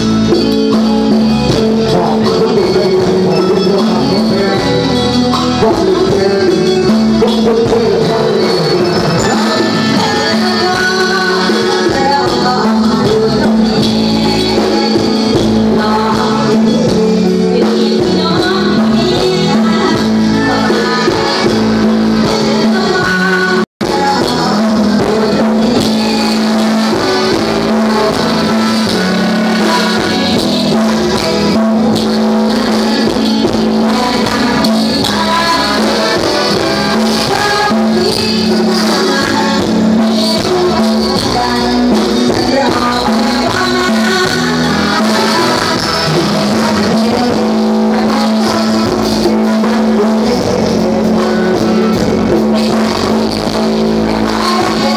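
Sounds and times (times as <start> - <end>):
loud live band music: 0.0 - 54.9.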